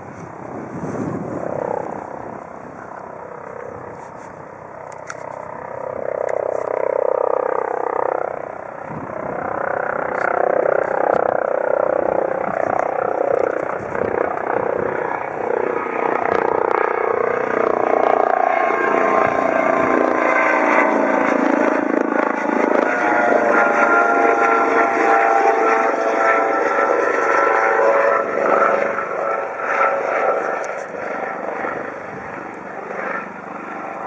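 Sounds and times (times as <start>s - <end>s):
helicopter rotor and turbine: 0.0s - 34.0s.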